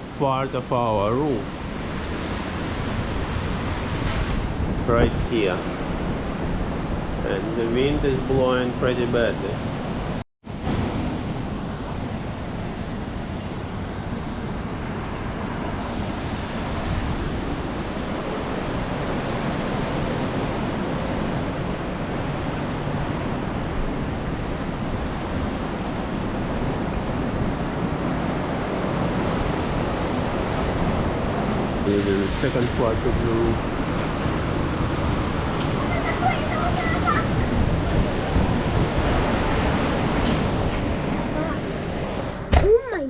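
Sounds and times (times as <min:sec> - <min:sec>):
strong wind into microphone: 0:00.0 - 0:43.0.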